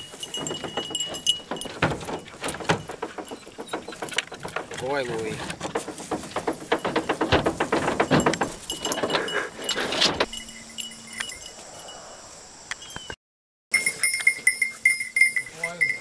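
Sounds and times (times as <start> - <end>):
collars jingling: 0.0 - 12.0, 13.7 - 16.0.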